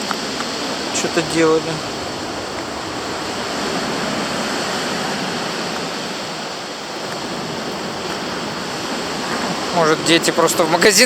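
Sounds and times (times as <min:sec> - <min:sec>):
heavy storm surf rushing: 0:00.0 - 0:11.0.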